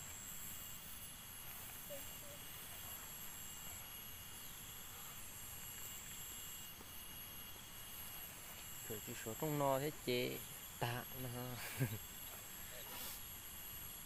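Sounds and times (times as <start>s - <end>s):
crickets chirring: 0.0s - 14.0s
low hiss: 0.0s - 14.0s.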